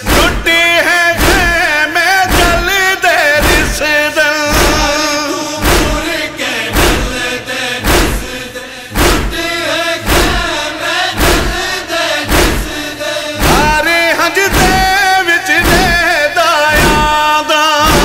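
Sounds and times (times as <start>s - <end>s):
chest-beating thumps: 0.0s - 18.0s
men chanting in unison: 0.0s - 18.0s.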